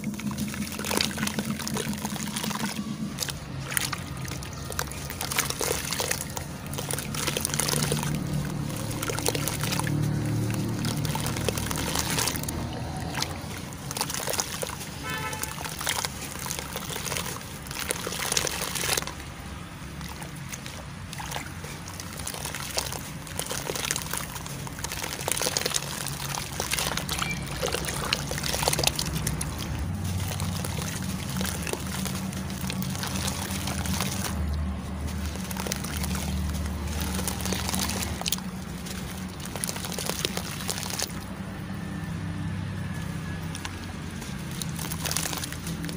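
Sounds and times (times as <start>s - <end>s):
wet crumbling and crackling: 0.0s - 19.4s, 20.0s - 41.3s, 41.9s - 45.9s
water sloshing and splashing: 0.0s - 45.9s.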